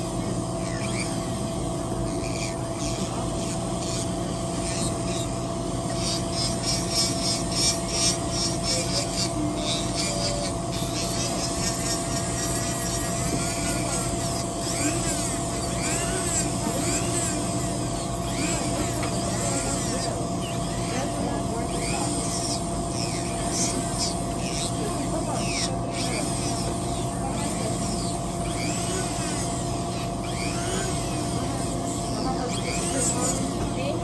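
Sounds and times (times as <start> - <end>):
electric nail drill whining: 0.0 - 34.0
faint voices: 0.0 - 34.0
drill bit rasping nail: 0.6 - 33.8.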